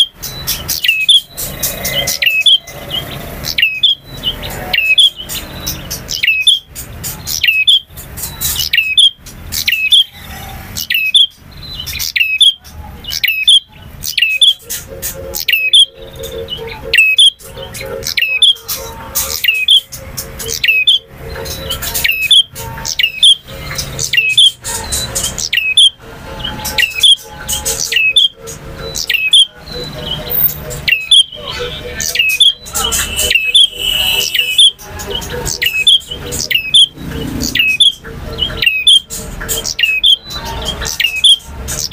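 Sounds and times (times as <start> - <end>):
bird chirping song: 0.0 - 41.9.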